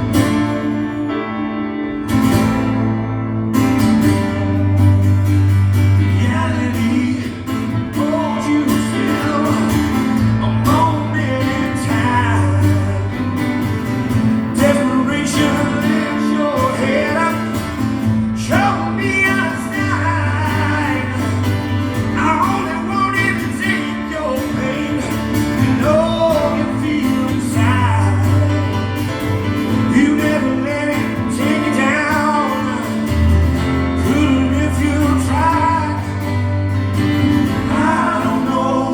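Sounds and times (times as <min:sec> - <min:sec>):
acoustic guitar playing: 0:00.0 - 0:38.9
person singing: 0:05.8 - 0:13.8, 0:14.4 - 0:36.6, 0:37.2 - 0:38.9.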